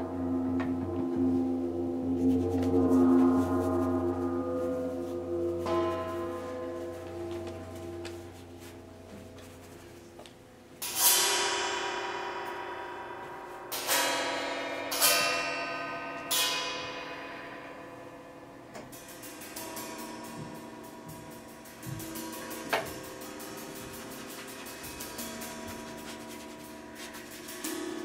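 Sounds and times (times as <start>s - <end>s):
bell-like metal strikes: 0.0s - 9.1s, 10.8s - 28.0s.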